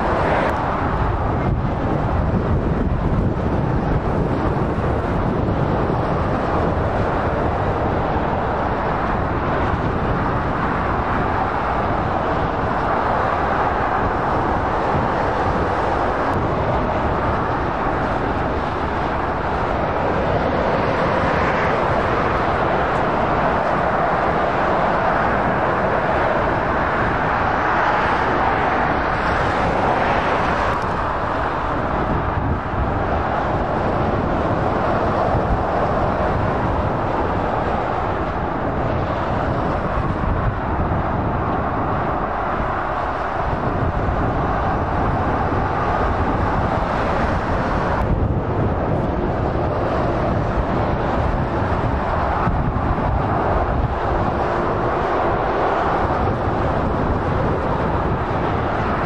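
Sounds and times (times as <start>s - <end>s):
motorway traffic passing: 0.0s - 59.0s.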